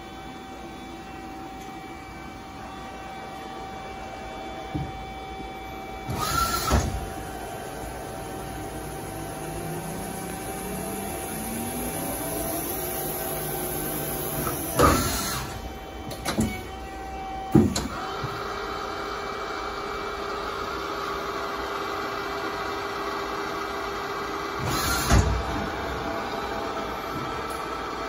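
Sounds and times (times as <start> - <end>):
lathe motors whining: 0.0 - 28.0.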